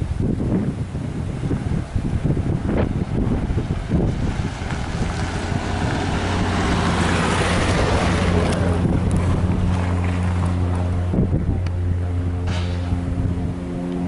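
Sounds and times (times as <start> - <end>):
propeller plane engine drone: 0.0 - 14.0
wind buffeting microphone: 0.0 - 14.0.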